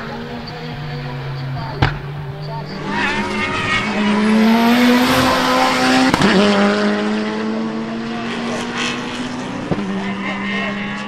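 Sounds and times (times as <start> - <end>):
race car engine pulling hard: 0.0 - 11.0.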